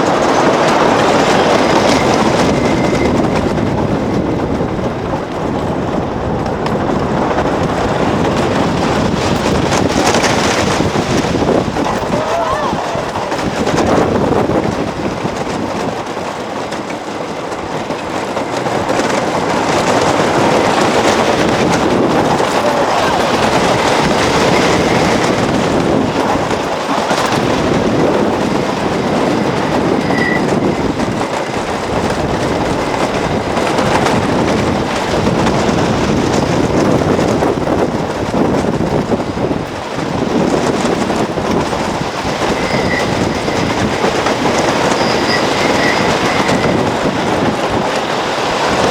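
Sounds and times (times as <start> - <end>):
roller coaster wheels clattering: 0.0 - 48.9.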